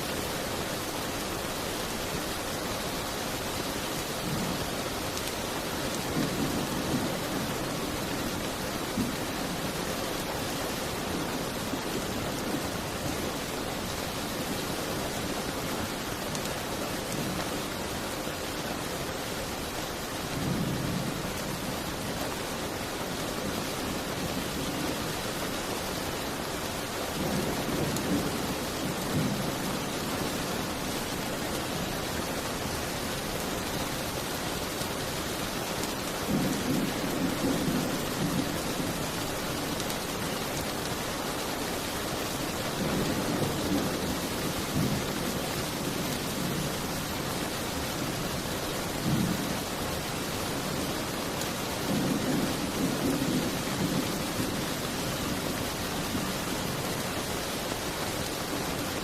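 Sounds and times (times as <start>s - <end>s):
rain hissing: 0.0s - 59.0s.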